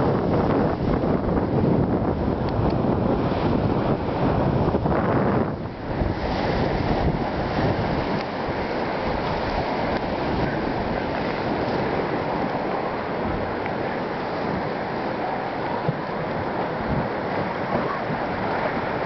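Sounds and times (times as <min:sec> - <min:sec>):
choppy lake water washing: 0:00.0 - 0:19.0
wind buffeting microphone: 0:00.0 - 0:19.0.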